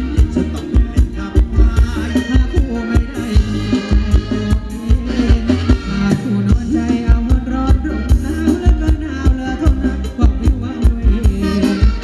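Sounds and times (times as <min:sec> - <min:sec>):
live band music: 0:00.0 - 0:12.0
steady drum beat: 0:00.0 - 0:12.0.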